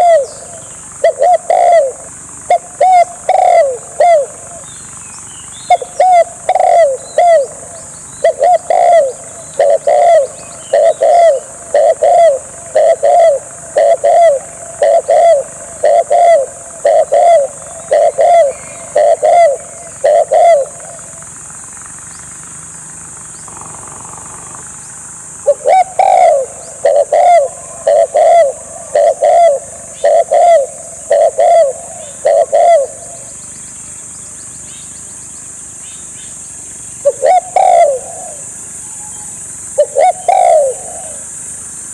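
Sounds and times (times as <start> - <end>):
dove cooing: 0.0 - 22.0, 22.9 - 33.7, 37.0 - 41.9
steady high-pitched hiss: 0.0 - 41.9.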